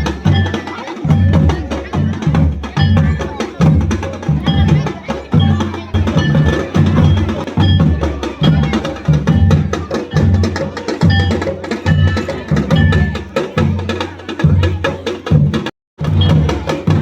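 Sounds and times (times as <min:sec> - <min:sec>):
music with heavy drum beat: 0:00.0 - 0:17.0
sharp clicking percussion: 0:00.0 - 0:17.0.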